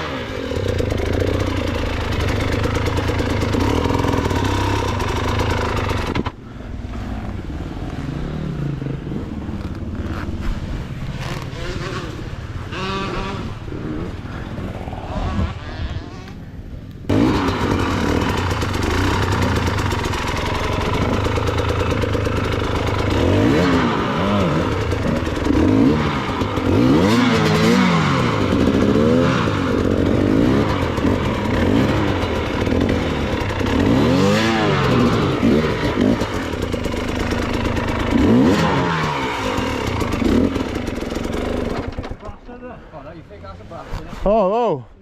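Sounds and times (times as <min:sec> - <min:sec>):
dirt bike engine revving: 0:00.0 - 0:06.4, 0:07.0 - 0:42.3.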